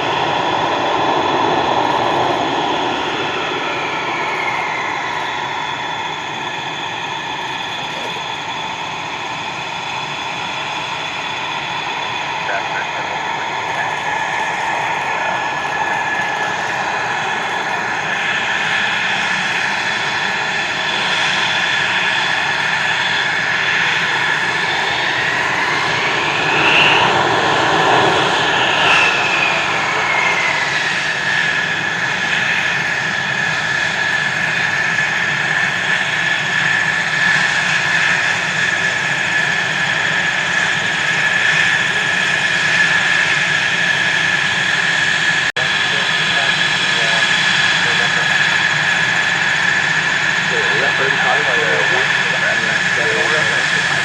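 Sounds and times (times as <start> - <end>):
jet engine whine and rumble: 0.0 - 54.0.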